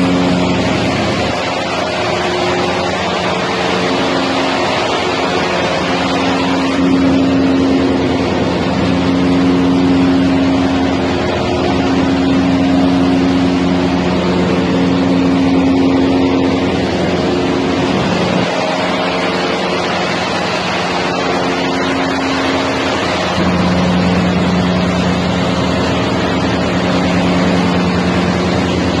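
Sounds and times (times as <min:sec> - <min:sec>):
constant rushing noise: 0:00.0 - 0:29.0
machine drone with motor hum: 0:00.0 - 0:29.0.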